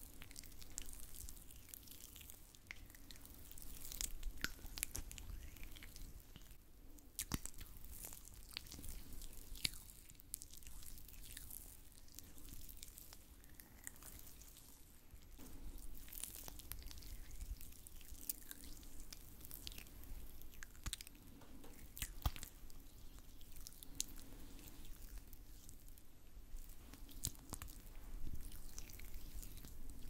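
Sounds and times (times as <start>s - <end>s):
small sticky clicks: 0.1s - 26.0s, 26.6s - 30.0s.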